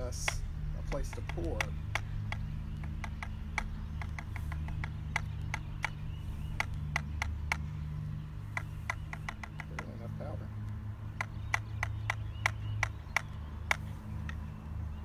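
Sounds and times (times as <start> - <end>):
light clicks and taps: 0.0 - 7.8, 8.5 - 14.5
steady low rumble: 0.0 - 15.0.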